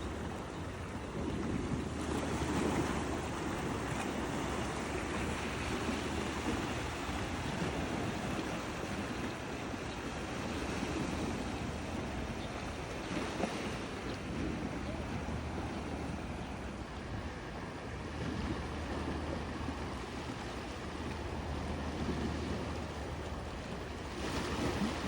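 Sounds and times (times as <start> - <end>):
sea surf washing onto beach: 0.0 - 25.0.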